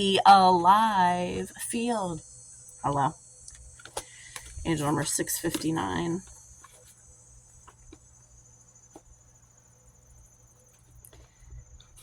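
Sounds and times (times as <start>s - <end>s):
high-pitched cricket trill: 0.0s - 12.0s.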